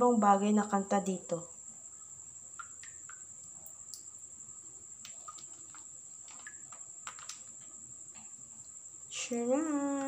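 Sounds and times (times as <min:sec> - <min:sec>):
insect trilling: 0:01.8 - 0:10.0.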